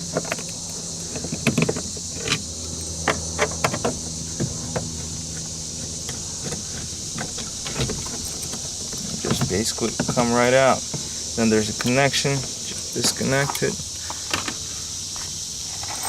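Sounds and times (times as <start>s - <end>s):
steady high hiss: 0.0s - 16.0s
steady low hum: 0.0s - 16.0s.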